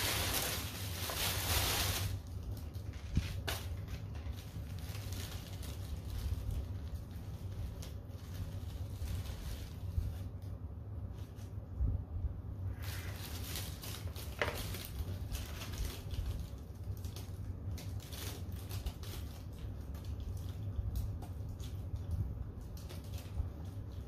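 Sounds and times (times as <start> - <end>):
tissue paper rustling: 0.0 - 12.0, 12.6 - 24.0.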